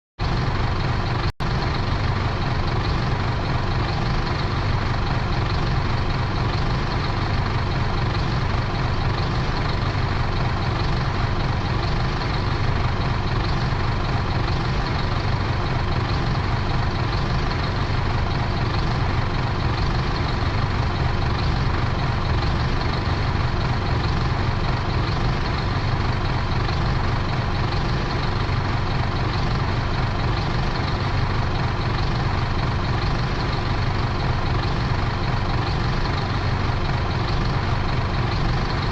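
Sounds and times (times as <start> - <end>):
bus engine idling: 0.2 - 38.9.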